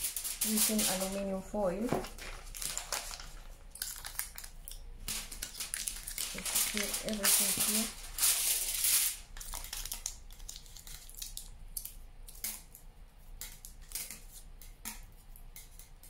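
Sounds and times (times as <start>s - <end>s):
aluminium foil crinkling: 0.0s - 14.5s.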